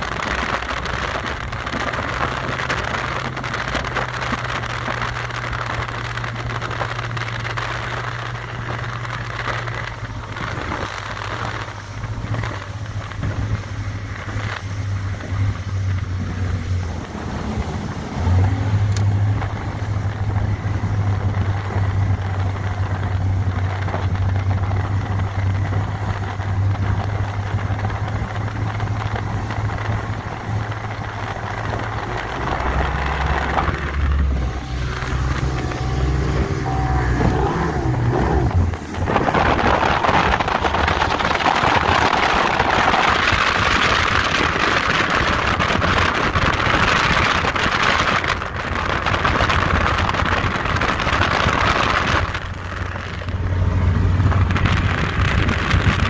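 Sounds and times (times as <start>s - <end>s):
speedboat engine drone: 0.0s - 56.0s
wind and water rushing: 0.0s - 56.0s.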